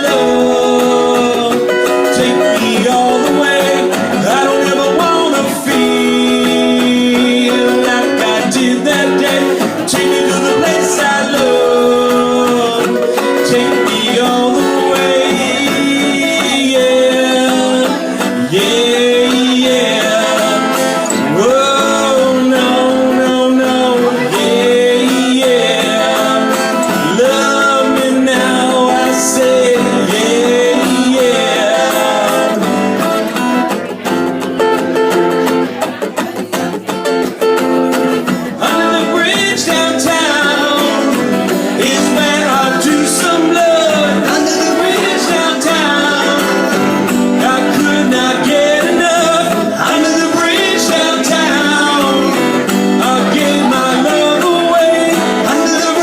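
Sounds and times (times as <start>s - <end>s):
guitar playing: 0.0s - 56.0s
person singing: 0.0s - 56.0s.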